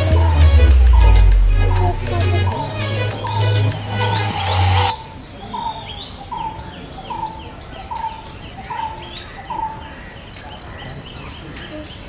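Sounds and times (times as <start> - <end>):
chorus of bird chirps: 0.1 - 12.0.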